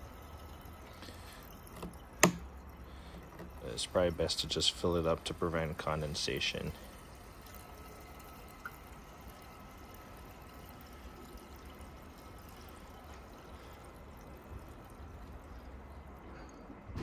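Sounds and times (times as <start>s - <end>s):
gasoline pouring into tank: 0.0s - 17.0s.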